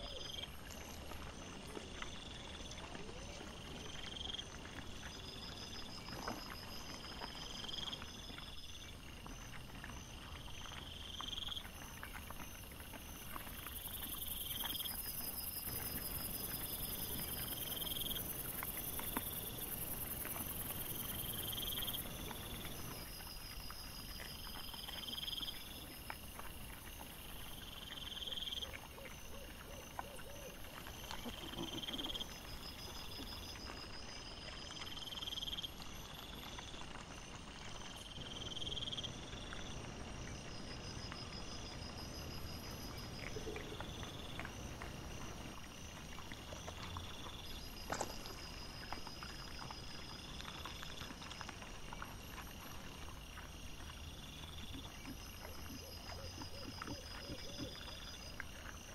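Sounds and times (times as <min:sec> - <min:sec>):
night insects chirping: 0:00.0 - 0:58.9.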